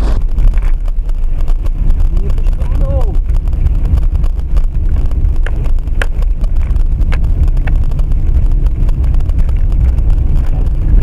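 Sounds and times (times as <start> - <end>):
road noise from vehicle: 0.0 - 11.0
wind buffeting microphone: 0.0 - 11.0.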